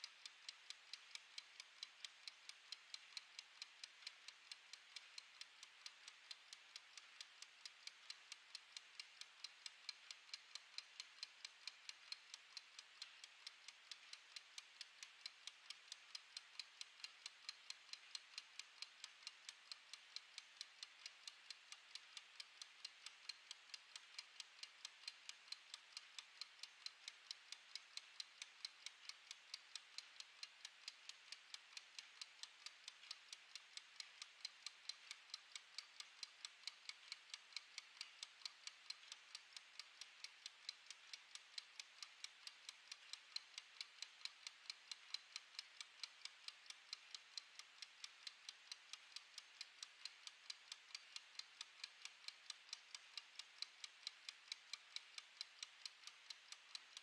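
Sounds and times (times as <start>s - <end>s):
kitchen timer ticking faintly: 0.0s - 57.0s.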